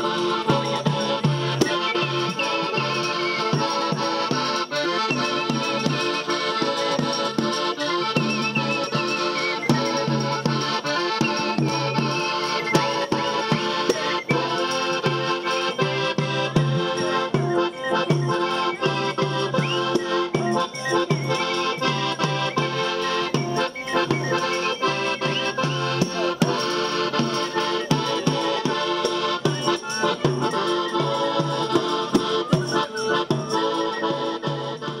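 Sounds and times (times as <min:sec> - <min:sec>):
tambourine jingles: 0:00.0 - 0:34.2
accordion playing folk dance tune: 0:00.0 - 0:35.0.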